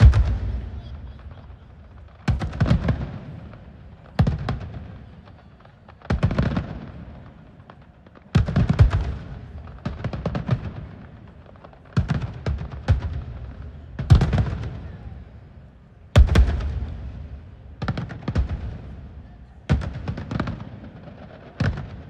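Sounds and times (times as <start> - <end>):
fireworks bursting in volleys: 0.0 - 22.0.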